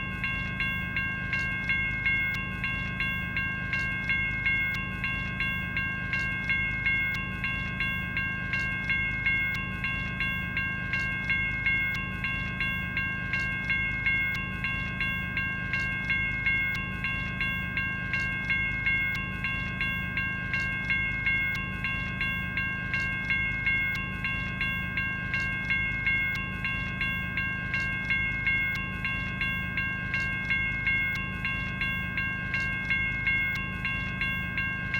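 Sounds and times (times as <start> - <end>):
electronic crossing bell ringing: 0.0 - 34.9.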